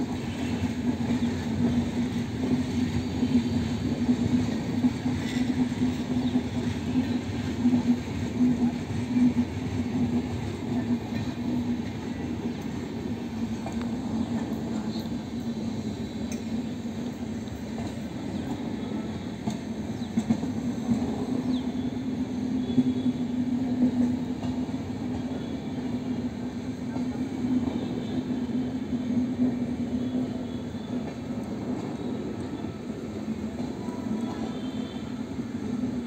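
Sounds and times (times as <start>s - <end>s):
train wheels rumbling on track: 0.0s - 36.0s.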